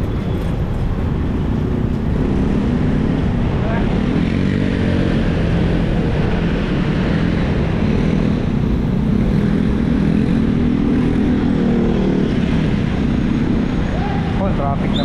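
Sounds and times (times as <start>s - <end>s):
low traffic rumble: 0.0s - 15.0s
motorcycle engines running: 0.0s - 15.0s.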